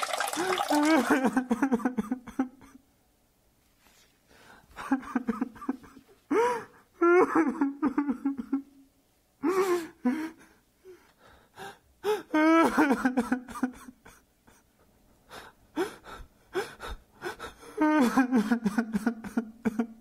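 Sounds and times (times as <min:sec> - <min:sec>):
person gasping and laughing: 0:00.2 - 0:02.8, 0:04.4 - 0:08.7, 0:09.4 - 0:14.7, 0:15.3 - 0:20.0.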